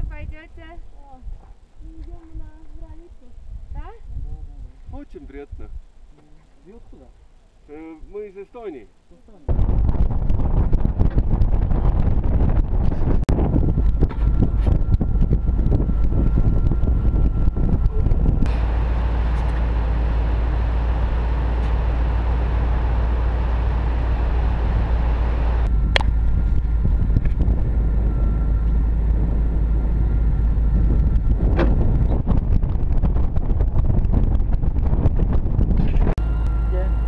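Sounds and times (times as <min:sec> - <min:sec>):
wind buffeting microphone: 0:00.0 - 0:06.0, 0:09.5 - 0:37.0.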